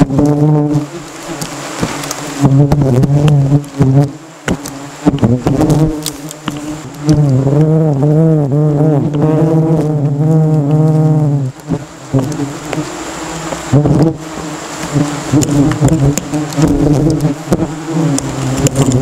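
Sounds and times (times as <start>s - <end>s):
bees buzzing: 0.0s - 19.0s
bees flying past: 0.0s - 19.0s.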